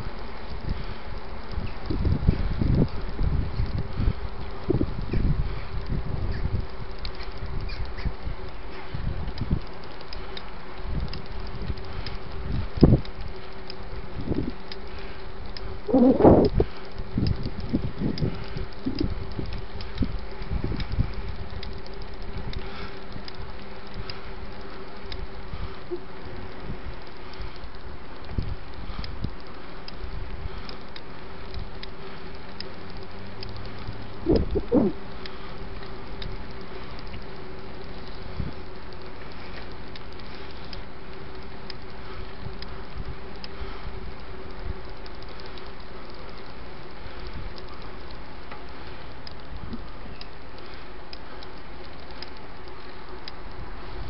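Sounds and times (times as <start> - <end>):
buzzing hum: 0.0 - 54.0
light rattling ticks: 0.0 - 54.0
steady rushing noise: 0.0 - 54.0
wind rumbling on microphone: 0.0 - 54.0.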